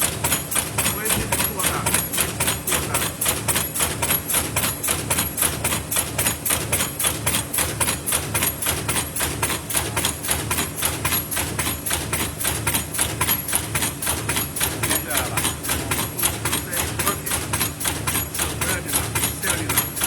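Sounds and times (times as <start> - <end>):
machine clattering: 0.0 - 20.0.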